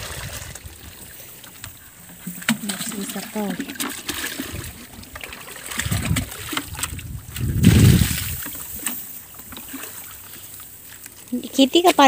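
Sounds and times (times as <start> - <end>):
muddy water sloshing and splashing: 0.0 - 12.0.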